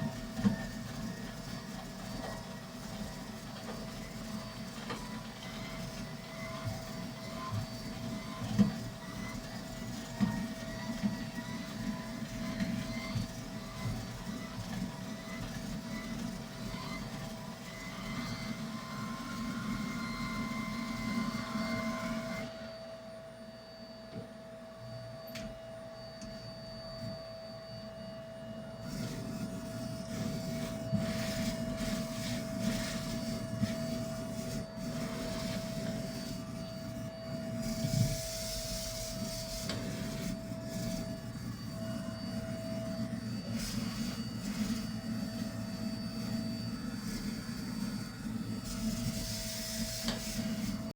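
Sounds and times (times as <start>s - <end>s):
vacuum cleaner on carpet: 0.0s - 50.9s.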